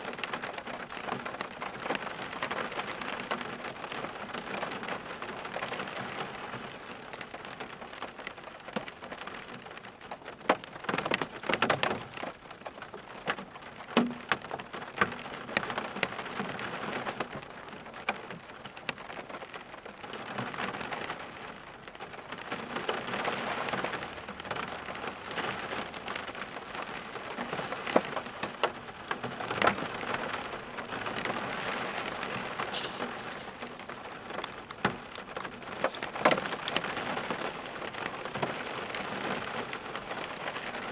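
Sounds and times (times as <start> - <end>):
raindrops tapping: 0.0 - 40.9
steady rain falling: 0.0 - 40.9.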